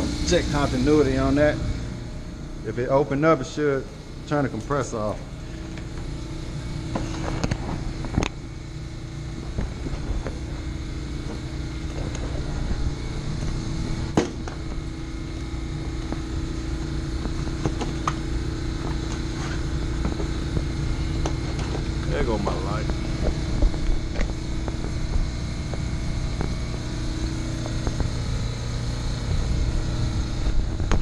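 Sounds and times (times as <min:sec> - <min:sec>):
hvac unit humming: 0:00.0 - 0:31.0.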